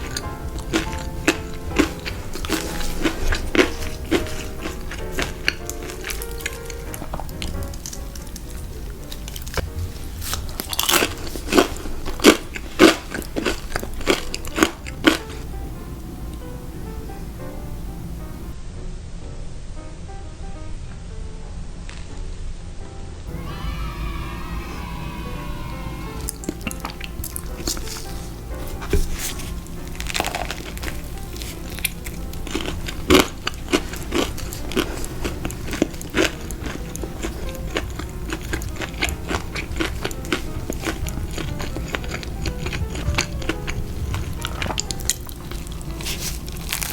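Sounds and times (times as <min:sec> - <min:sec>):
chewing crispy food: 0:00.0 - 0:15.5, 0:23.4 - 0:46.9.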